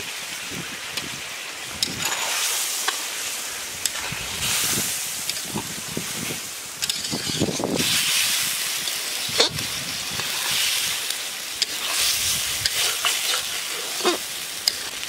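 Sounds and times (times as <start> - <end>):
food sizzling in a pan: 0.0 - 15.0
spatula stirring and scraping pan: 1.8 - 15.0.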